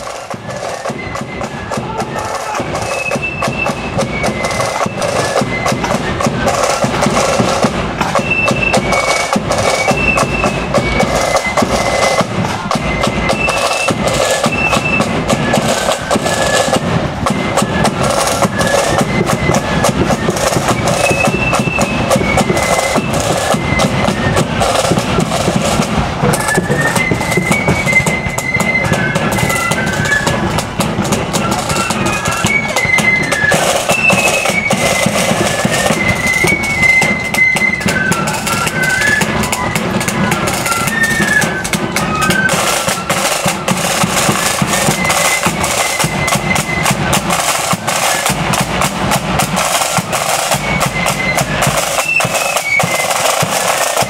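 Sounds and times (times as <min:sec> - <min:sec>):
high flute melody: 0:00.0 - 0:54.0
snare drums rattling: 0:00.0 - 0:54.0.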